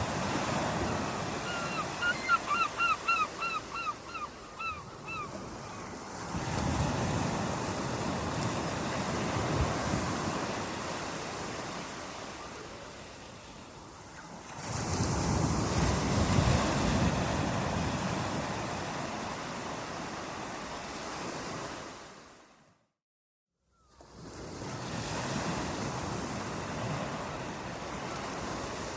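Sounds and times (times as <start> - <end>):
ocean waves washing in and out: 0.0 - 22.8, 23.9 - 28.9.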